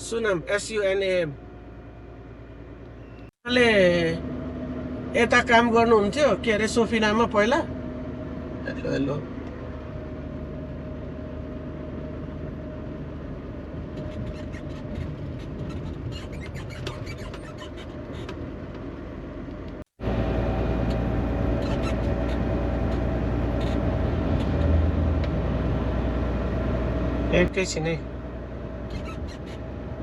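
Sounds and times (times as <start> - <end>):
truck engine and road rumble: 0.0 - 30.0.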